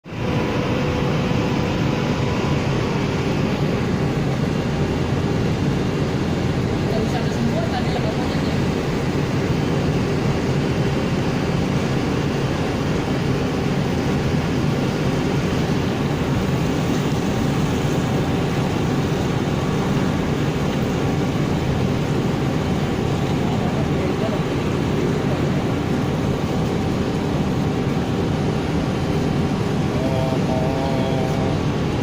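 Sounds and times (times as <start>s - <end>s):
ferry engine low rumble: 0.0s - 32.0s.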